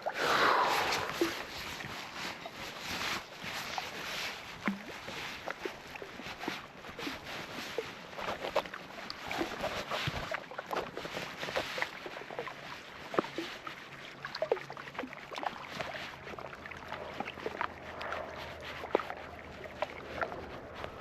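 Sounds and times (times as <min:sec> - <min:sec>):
small water splashes: 0:00.0 - 0:21.0
water lapping: 0:00.0 - 0:21.0.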